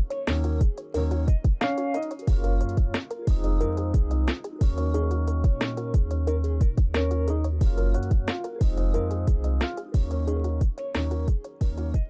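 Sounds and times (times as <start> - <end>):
lofi music with beat and keyboard: 0.0 - 12.0.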